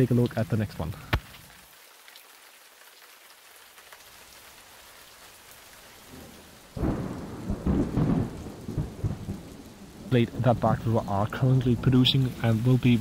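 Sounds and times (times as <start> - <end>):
rain hiss: 0.0 - 13.0
rain striking microphone: 0.0 - 13.0.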